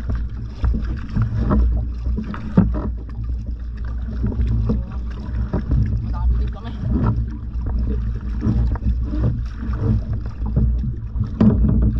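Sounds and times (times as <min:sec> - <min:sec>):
paddle splashing in water: 0:00.0 - 0:11.9
wind rumble on microphone: 0:00.0 - 0:11.9.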